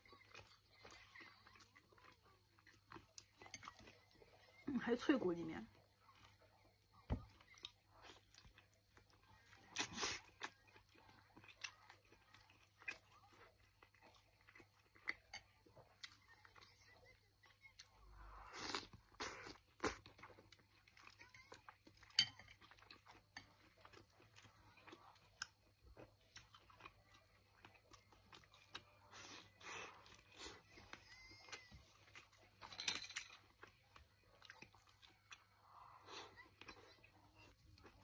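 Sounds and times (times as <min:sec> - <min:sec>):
crisp chewing crunches: 0:06.0 - 0:38.0.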